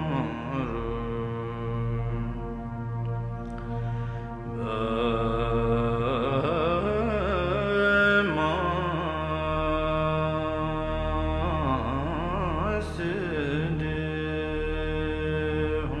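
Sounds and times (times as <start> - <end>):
low steady drone: 0.0 - 16.0
melodic prayer chanting: 0.0 - 16.0.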